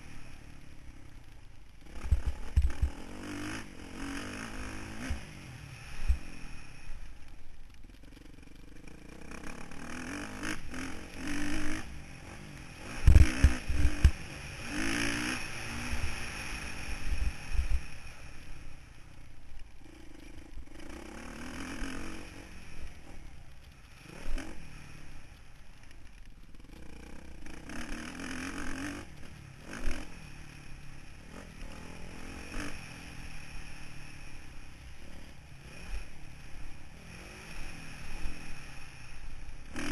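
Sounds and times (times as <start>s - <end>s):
motocross engine revving: 1.8s - 6.7s, 8.0s - 18.4s, 19.8s - 23.2s, 26.7s - 39.9s.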